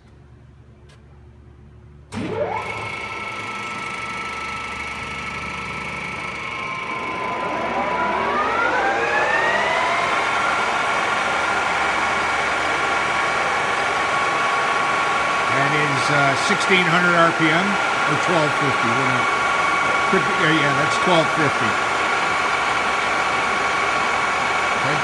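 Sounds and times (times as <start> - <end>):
lathe gear whine: 2.2 - 25.0
lathe motor whine: 2.2 - 25.0.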